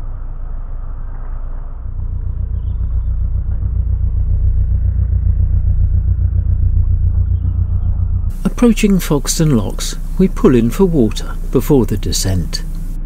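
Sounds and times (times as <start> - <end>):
boat engine rumbling: 0.7 - 13.0.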